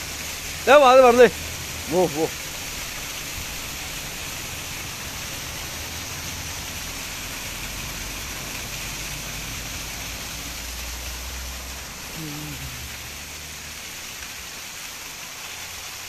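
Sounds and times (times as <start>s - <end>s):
waterfall splashing on rocks: 0.0s - 16.0s.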